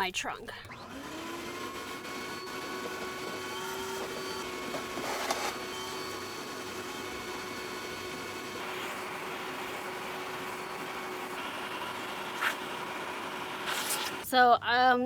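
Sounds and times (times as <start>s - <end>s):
vacuum cleaner running: 0.6s - 14.3s.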